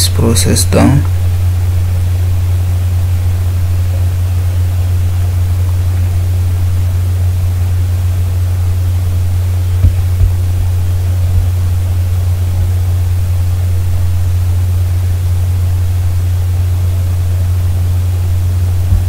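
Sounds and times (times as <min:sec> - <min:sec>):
loud low hum: 0:00.0 - 0:19.0.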